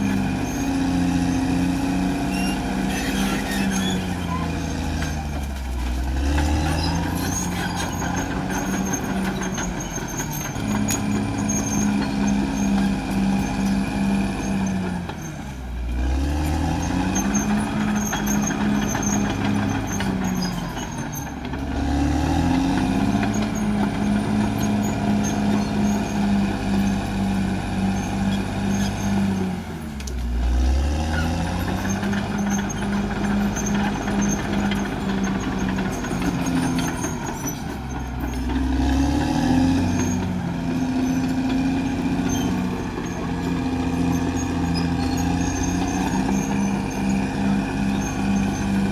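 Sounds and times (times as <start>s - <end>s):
bulldozer diesel engine running hard: 0.0s - 48.9s.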